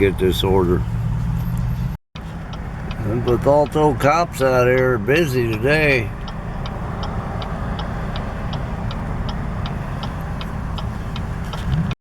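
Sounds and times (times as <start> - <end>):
engine hum: 0.0 - 12.0
road noise inside car: 0.0 - 12.0
car turn signal ticking: 2.2 - 12.0.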